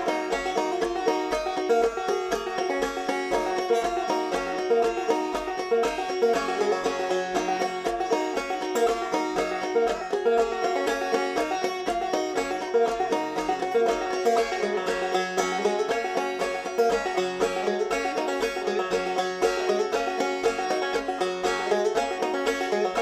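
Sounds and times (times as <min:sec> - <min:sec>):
plucked-string notes: 0:00.0 - 0:23.0.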